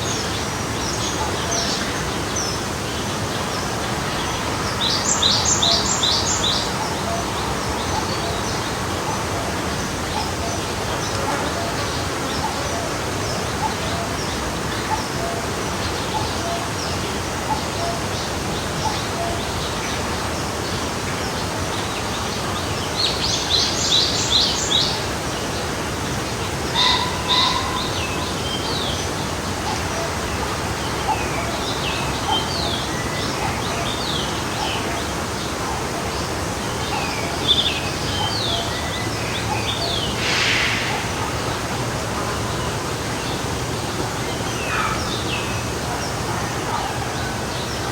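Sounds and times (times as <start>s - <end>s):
stream flowing: 0.0s - 47.9s.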